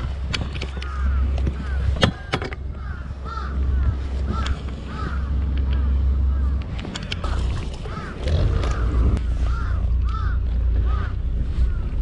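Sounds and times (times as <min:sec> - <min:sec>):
birds calling: 0:00.0 - 0:12.0
low steady rumble: 0:00.0 - 0:12.0.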